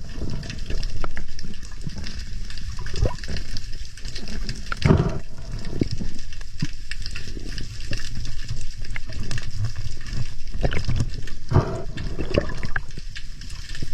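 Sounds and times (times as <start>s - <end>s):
small clicks and splashes: 0.0s - 13.9s
water sloshing and gurgling: 0.0s - 13.9s.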